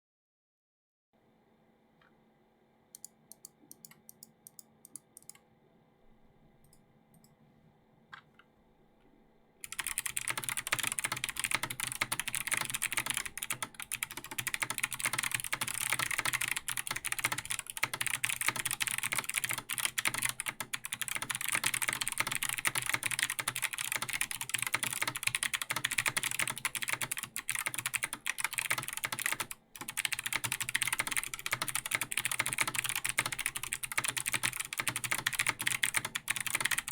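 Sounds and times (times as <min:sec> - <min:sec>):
clicky mechanical keyboard typing: 0:03.0 - 0:05.4, 0:09.6 - 0:36.9.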